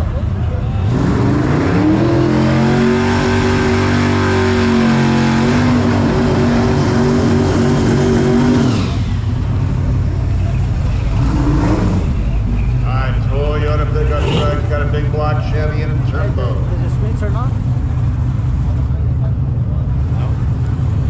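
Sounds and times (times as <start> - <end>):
race car engine at full throttle: 0.0 - 21.0.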